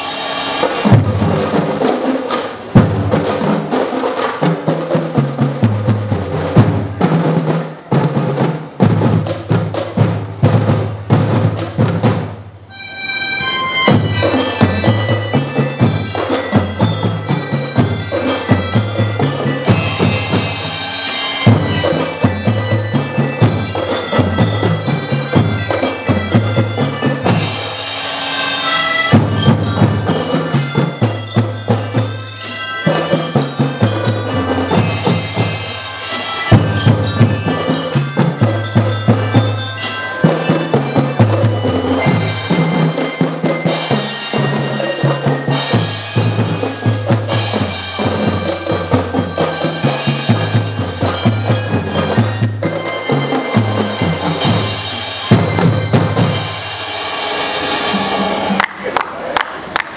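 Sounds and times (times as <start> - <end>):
bell lyres playing melody: 0.0 - 12.0, 12.6 - 58.9
marching drums: 0.0 - 59.9.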